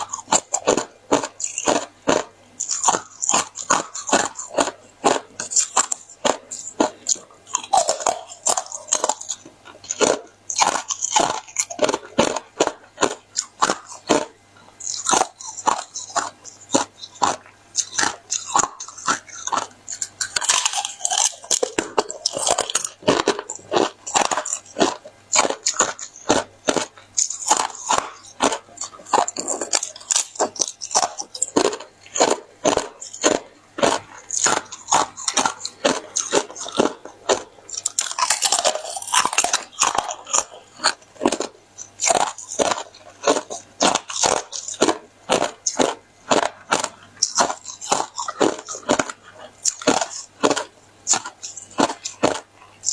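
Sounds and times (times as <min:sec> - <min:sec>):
ice crunching between teeth: 0:00.0 - 0:52.9.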